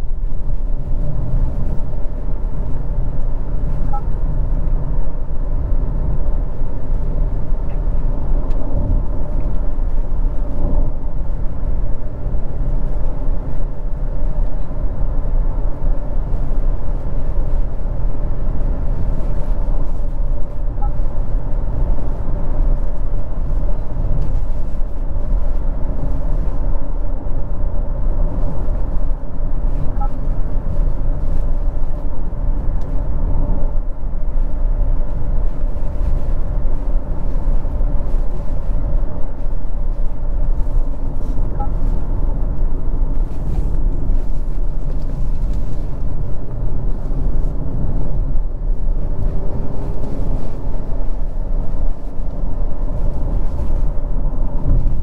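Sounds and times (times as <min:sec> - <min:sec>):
engine and road noise rumble: 0:00.0 - 0:55.0.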